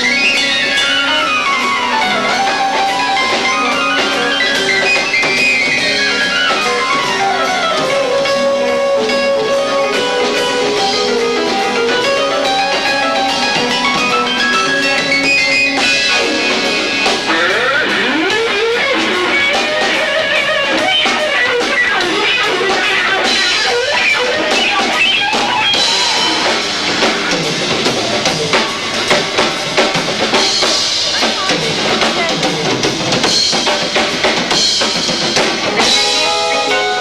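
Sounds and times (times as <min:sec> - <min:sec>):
drums: 0:00.0 - 0:37.0
electric guitar bending notes: 0:00.0 - 0:37.0.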